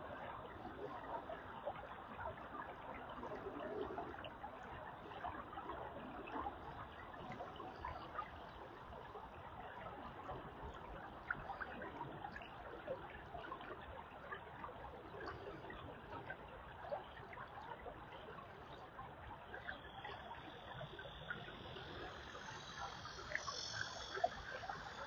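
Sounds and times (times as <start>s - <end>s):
creek water trickling: 3.9s - 25.0s.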